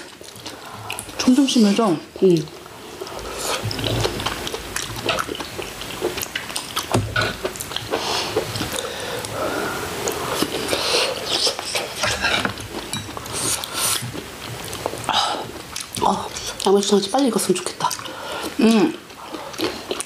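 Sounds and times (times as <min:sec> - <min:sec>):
wet chewing and smacking: 0:00.0 - 0:09.4, 0:10.0 - 0:20.0.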